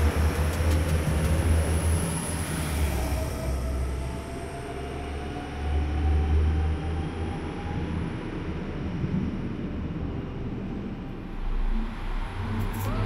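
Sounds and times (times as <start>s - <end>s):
faint train whine: 0.0s - 13.0s
train rumbling: 0.0s - 13.0s.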